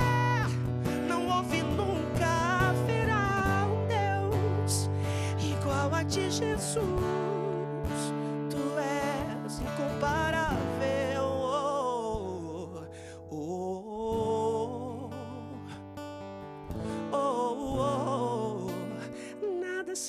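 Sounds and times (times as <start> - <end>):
man singing into microphone: 0.0 - 16.0, 16.8 - 20.0
acoustic guitar: 0.0 - 20.0.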